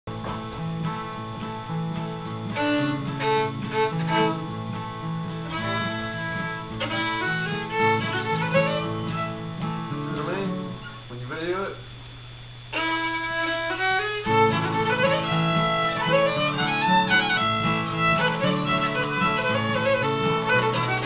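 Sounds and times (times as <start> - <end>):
acoustic guitar strumming: 0.1 - 21.0
fiddle playing a tune: 1.4 - 10.8, 12.7 - 21.0.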